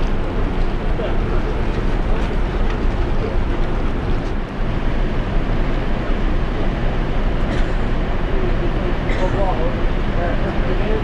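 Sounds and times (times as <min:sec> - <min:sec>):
churned water washing: 0:00.0 - 0:11.0
ferry machinery rumble: 0:00.0 - 0:11.0.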